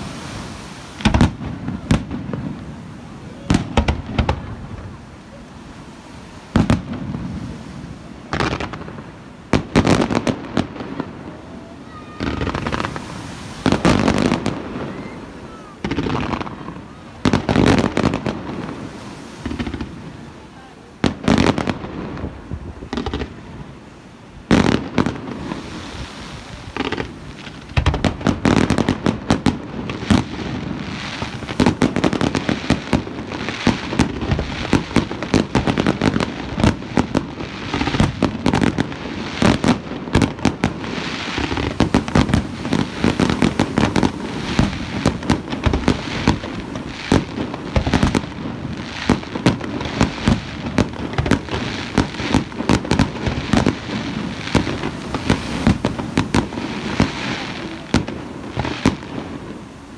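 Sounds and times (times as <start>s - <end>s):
fireworks bangs and bursts: 0.0s - 23.8s, 24.4s - 59.9s.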